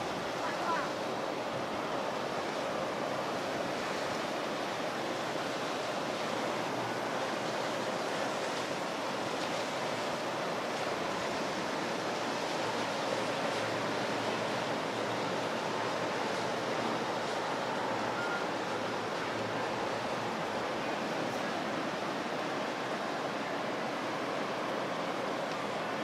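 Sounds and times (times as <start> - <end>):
ocean waves and surf: 0.0 - 26.0.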